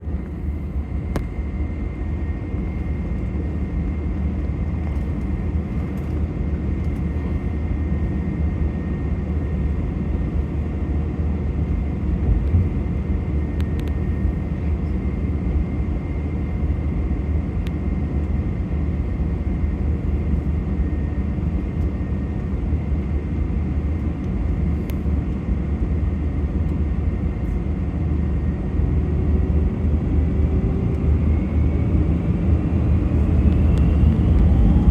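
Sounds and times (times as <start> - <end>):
jet airliner cabin rumble: 0.0 - 34.9.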